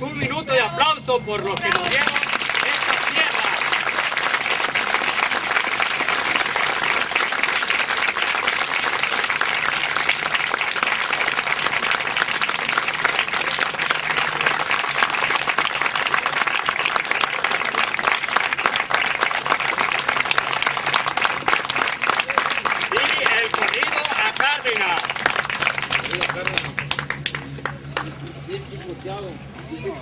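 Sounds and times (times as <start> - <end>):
crowd clapping: 1.4 - 28.5.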